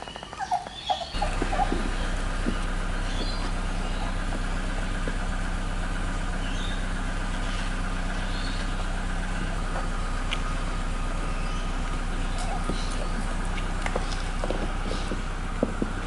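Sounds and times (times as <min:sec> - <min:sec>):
low mechanical drone: 0:00.4 - 0:16.0.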